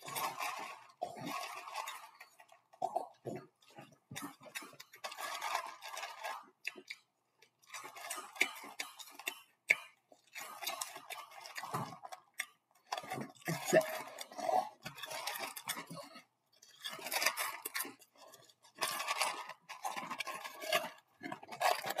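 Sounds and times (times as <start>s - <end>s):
crunchy cereal chewing: 0.0s - 22.0s.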